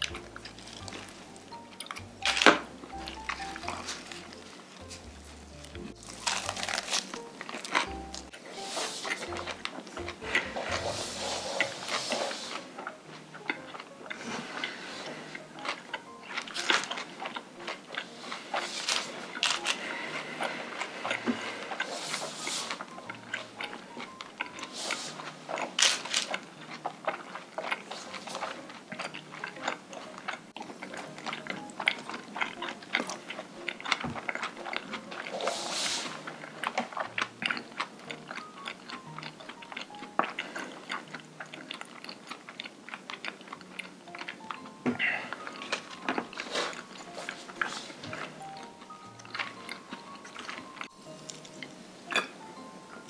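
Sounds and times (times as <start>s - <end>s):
chewing and biting meat: 0.0s - 51.8s
soft background music: 0.0s - 53.0s.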